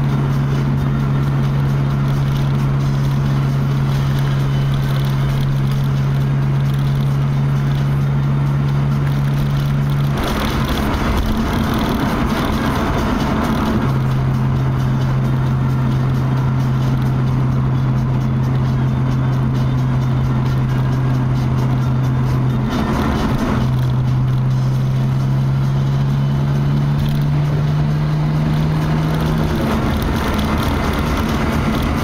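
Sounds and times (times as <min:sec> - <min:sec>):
car engine drone inside cabin: 0:00.0 - 0:32.0
road and tyre noise: 0:00.0 - 0:32.0.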